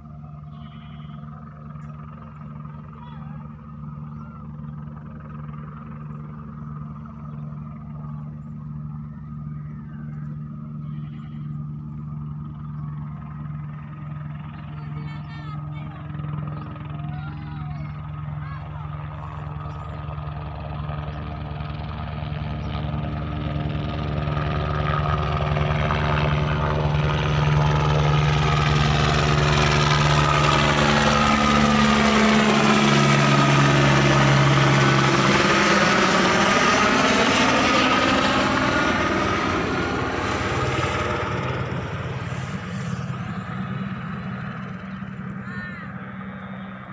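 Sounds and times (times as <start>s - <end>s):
helicopter flying past: 0.0s - 46.9s.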